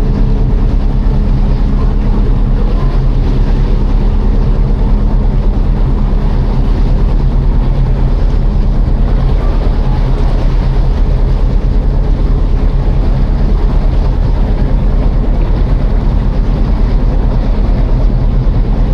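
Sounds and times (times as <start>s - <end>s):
ferry engine humming: 0.0s - 18.9s.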